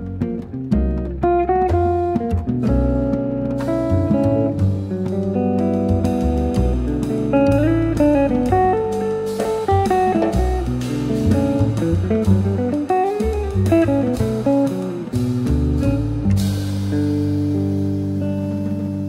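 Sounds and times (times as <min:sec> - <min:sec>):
guitar-led background music: 0:00.0 - 0:19.0.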